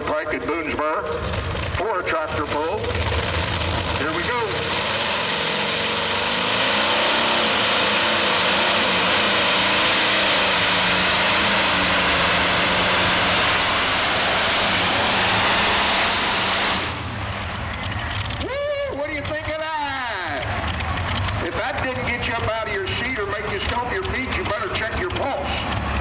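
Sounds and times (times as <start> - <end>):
radial engine running at full power: 0.0 - 26.0.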